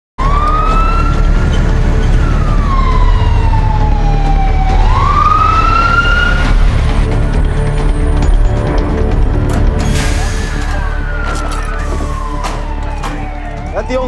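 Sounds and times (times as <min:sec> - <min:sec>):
fire engine siren wailing: 0:00.2 - 0:08.2, 0:09.9 - 0:14.0.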